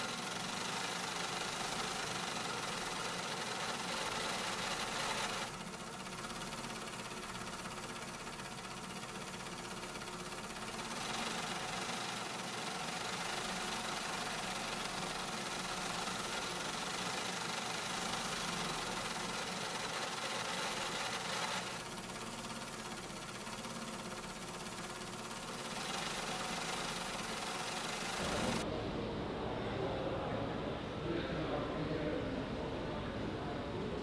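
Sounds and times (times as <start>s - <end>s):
workshop machinery humming: 0.0s - 34.0s.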